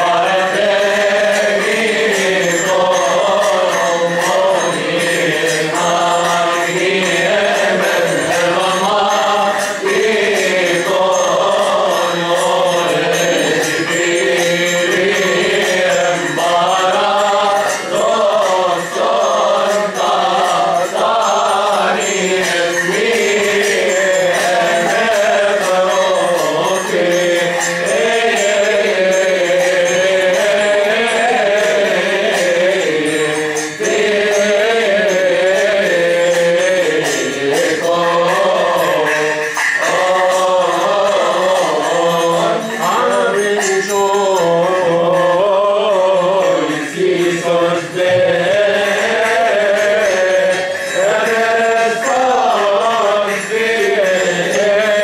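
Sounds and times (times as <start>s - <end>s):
liturgical hymn chanting: 0.0s - 55.0s.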